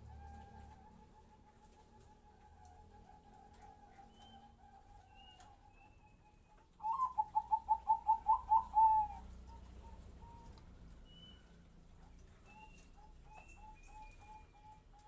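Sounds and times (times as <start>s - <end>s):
dove cooing song: 0.0s - 15.0s.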